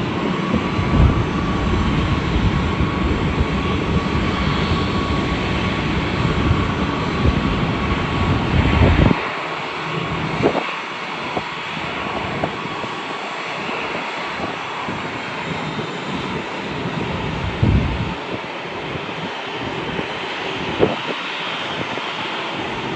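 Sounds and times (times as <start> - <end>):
jet engine high whine: 0.0 - 22.9
jet engine low rumble: 0.0 - 22.9.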